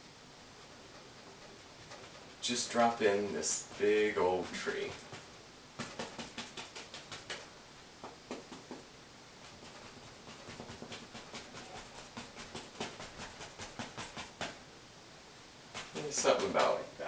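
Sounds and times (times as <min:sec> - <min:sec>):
brush tapping paint onto canvas: 0:00.9 - 0:14.6, 0:15.7 - 0:16.9.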